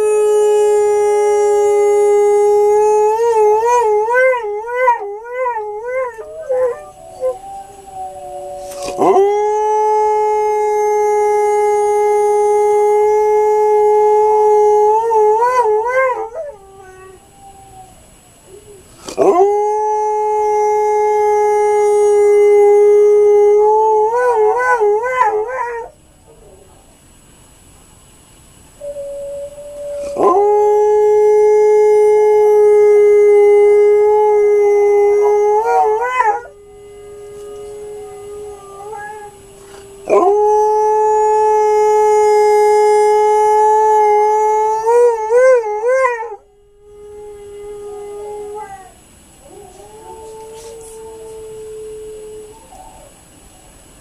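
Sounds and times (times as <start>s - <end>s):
dog howling: 0.0s - 26.7s, 28.8s - 53.3s.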